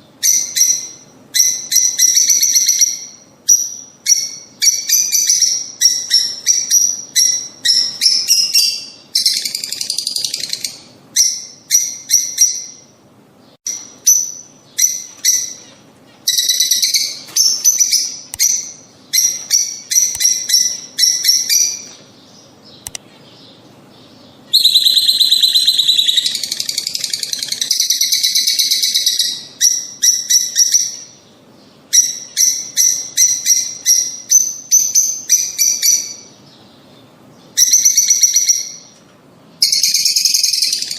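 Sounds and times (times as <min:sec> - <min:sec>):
birds chirping and chattering: 0:00.0 - 0:40.9.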